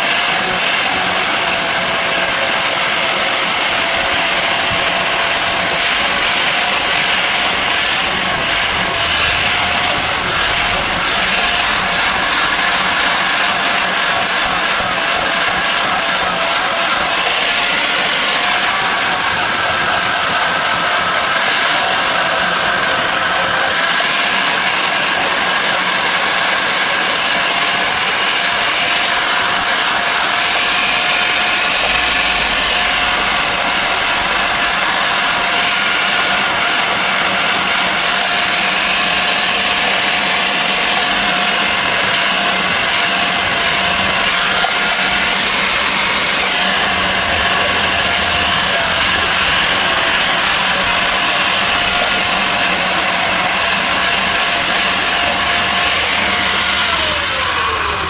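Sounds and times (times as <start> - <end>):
motor-driven tool whining: 0.0 - 58.0.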